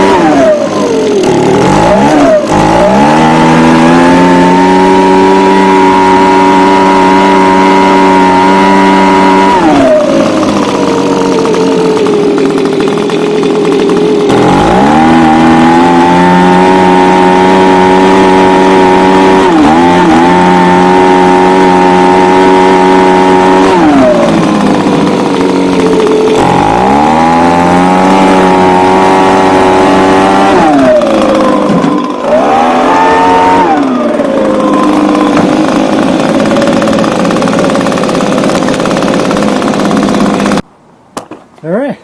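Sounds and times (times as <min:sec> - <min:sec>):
leaf blower engine revving: 0:00.0 - 0:40.7.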